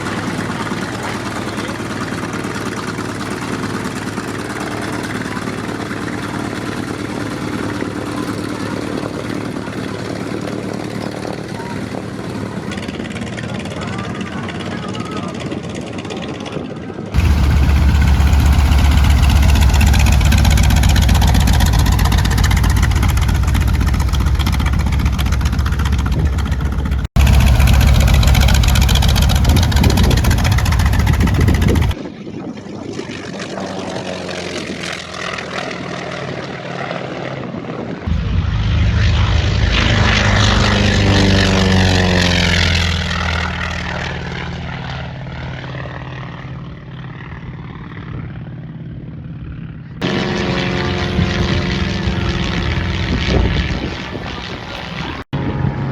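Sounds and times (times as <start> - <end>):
aircraft passing: 0.0 - 55.9
propeller aircraft engine running: 0.0 - 55.9.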